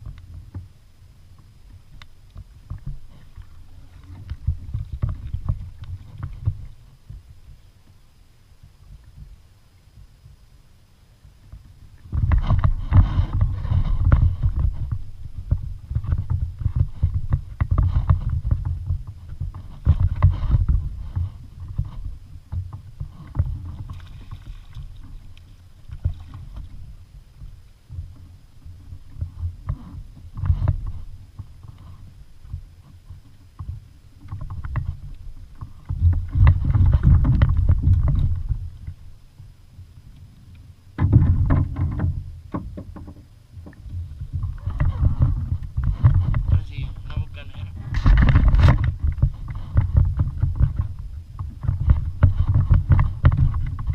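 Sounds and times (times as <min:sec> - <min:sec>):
water noise: 0:00.0 - 0:53.9
kayak hull bumping: 0:01.6 - 0:08.0, 0:11.3 - 0:39.5, 0:40.9 - 0:53.9.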